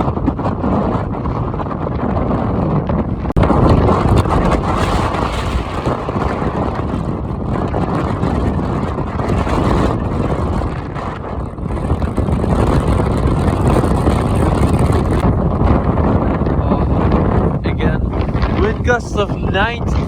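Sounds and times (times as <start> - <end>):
wind gusts buffeting microphone: 0.0 - 20.0.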